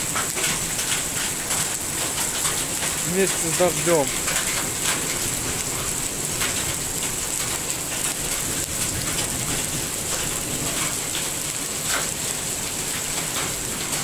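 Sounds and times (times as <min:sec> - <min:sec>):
hailstones ticking: 0:00.0 - 0:14.0
rain hissing: 0:00.0 - 0:14.0.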